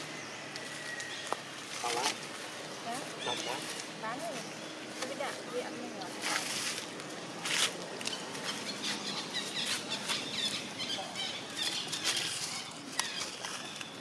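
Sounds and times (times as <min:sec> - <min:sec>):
scuffs and rustles in dry leaves: 0:00.0 - 0:14.0.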